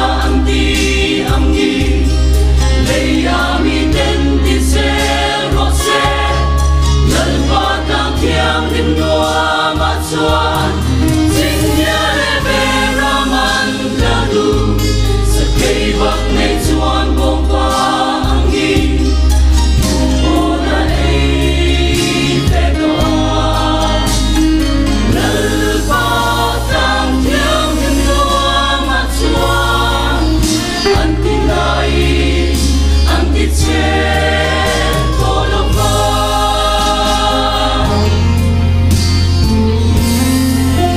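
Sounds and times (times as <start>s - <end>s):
mixed choir singing: 0.0s - 39.0s
low bass notes: 0.0s - 40.9s.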